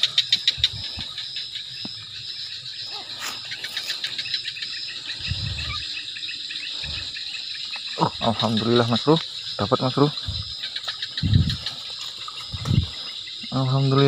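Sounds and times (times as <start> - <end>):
crickets and insects chirring: 0.0 - 14.0.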